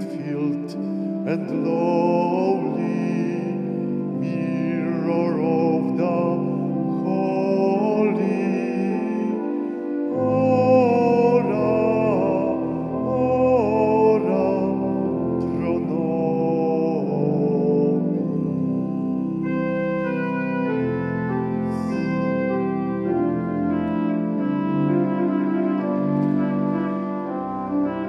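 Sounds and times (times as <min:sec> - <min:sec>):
organ chords: 0:00.0 - 0:28.0.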